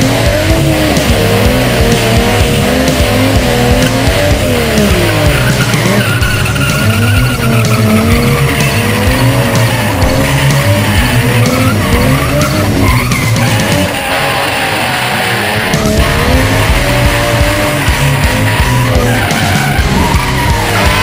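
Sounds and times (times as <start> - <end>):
background music: 0.0 - 21.0
car engine revving: 0.0 - 21.0
tyres squealing on concrete: 0.1 - 21.0.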